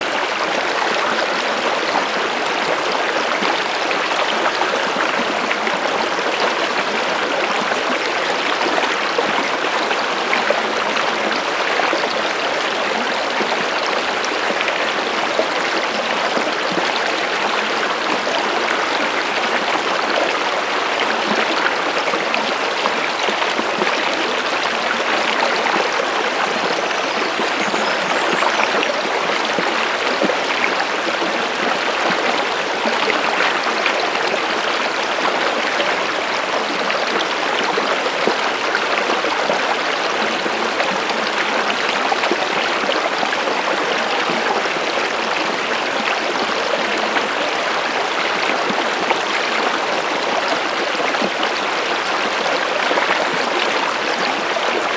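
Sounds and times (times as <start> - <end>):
stream water flowing: 0.0 - 54.9.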